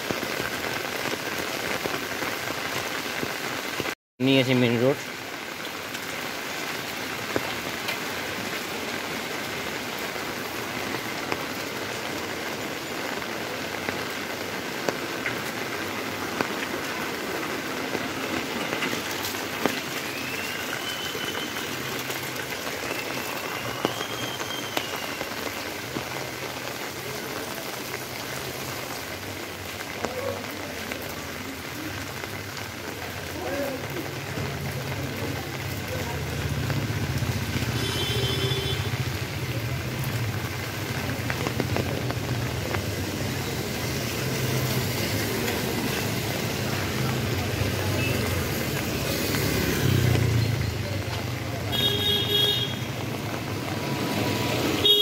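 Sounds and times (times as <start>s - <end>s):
rain pouring on a street: 0.0s - 55.0s.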